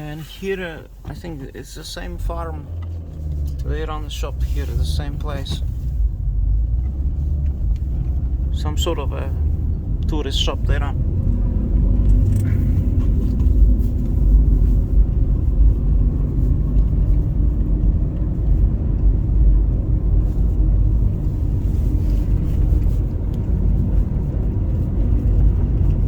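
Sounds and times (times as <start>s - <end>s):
car driving rumble: 0.0s - 26.0s.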